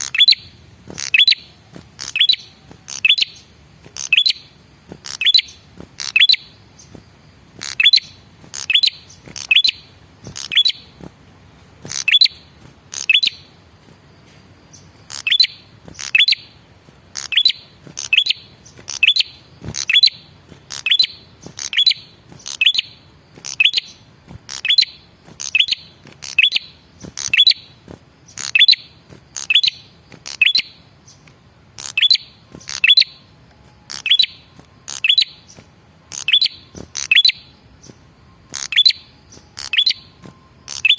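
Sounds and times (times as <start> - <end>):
songbird chirping calls: 0.0 - 40.9.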